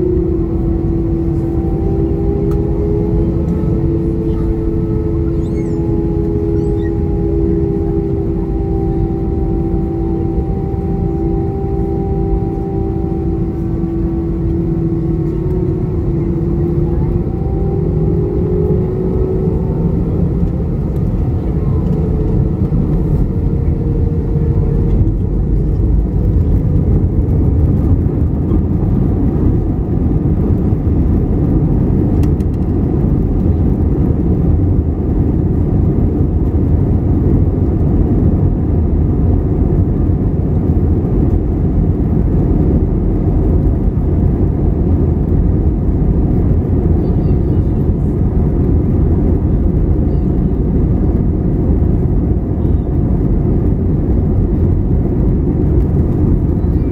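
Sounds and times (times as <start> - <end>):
faint engine whine: 0.0 - 56.9
jet engine rumble in cabin: 0.0 - 56.9.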